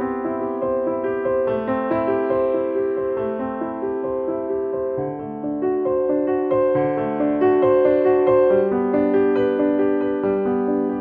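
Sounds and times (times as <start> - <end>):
keyboard melody: 0.0 - 11.0.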